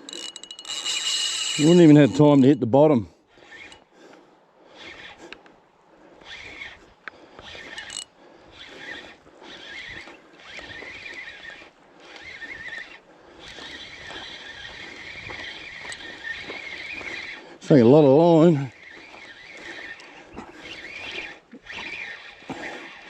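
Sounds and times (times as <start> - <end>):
fishing reel drag squealing: 0.0 - 2.6, 3.2 - 3.9, 4.7 - 5.4, 6.2 - 23.0.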